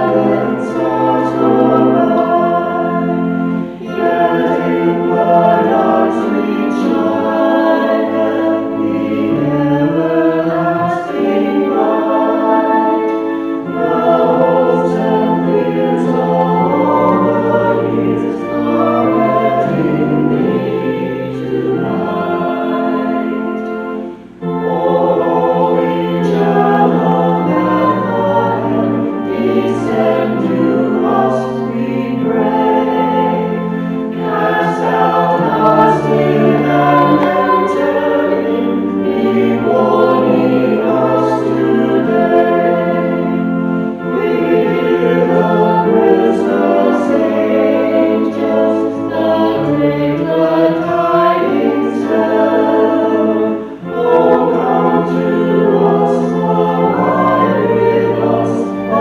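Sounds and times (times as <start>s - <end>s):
choir singing a carol: 0.0s - 59.0s.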